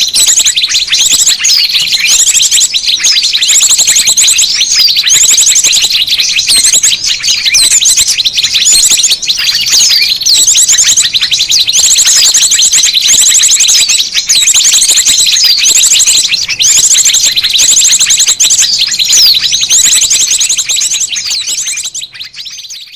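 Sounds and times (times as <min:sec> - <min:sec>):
small birds chirping and trilling: 0:00.0 - 0:22.9.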